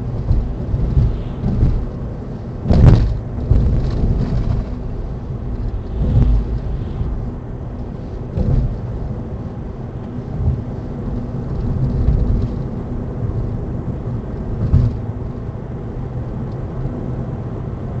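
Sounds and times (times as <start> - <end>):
electric car low rumble and hum: 0.0 - 18.0.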